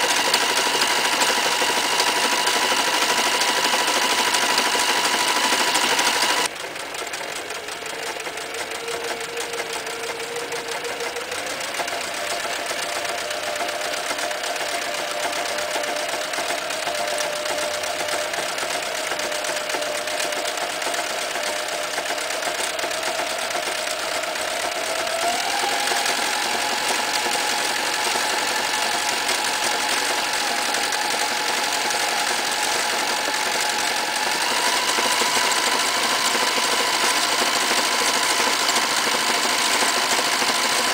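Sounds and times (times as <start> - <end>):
sewing machine stitching: 0.0 - 40.9.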